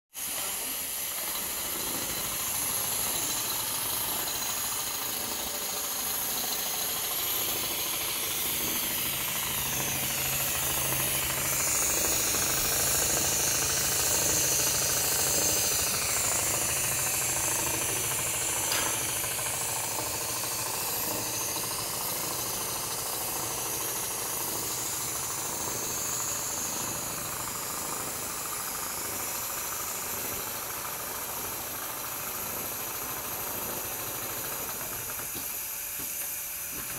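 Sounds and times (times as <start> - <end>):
sewing machine running: 0.2 - 35.8
hiss: 0.2 - 36.9.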